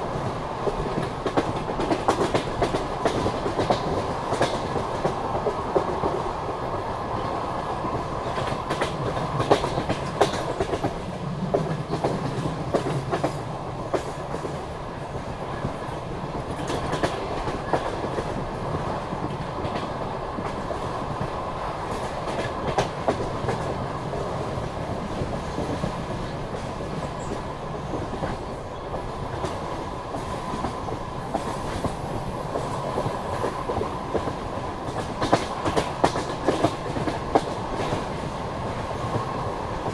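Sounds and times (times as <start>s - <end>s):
train carriage rumbling: 0.0s - 39.9s.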